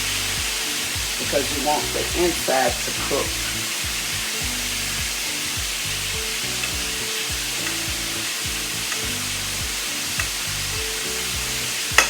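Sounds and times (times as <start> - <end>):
background music with beat: 0.0 - 12.0
chicken sizzling in oil: 0.0 - 12.0
oil popping: 0.0 - 12.0.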